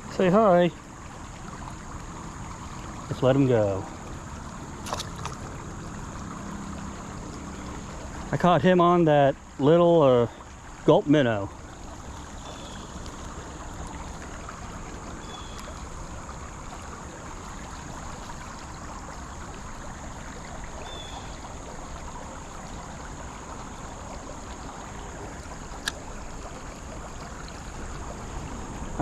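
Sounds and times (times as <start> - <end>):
creek water flowing: 0.0 - 29.0.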